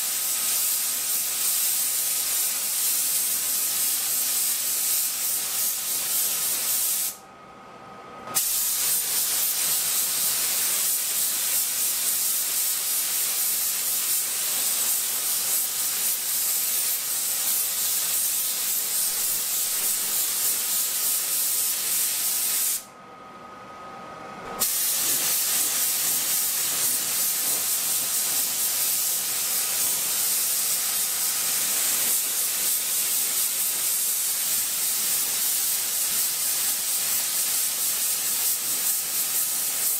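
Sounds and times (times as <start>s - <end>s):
paint spray gun hissing: 0.0s - 7.2s, 8.4s - 22.8s, 24.6s - 39.9s.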